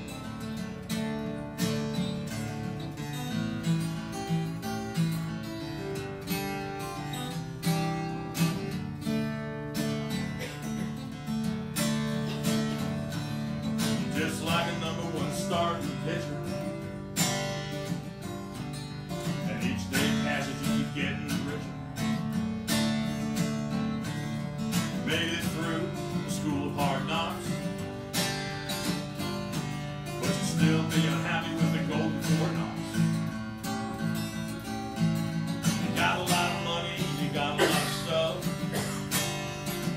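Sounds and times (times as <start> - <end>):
acoustic guitar strumming blues: 0.0 - 39.9.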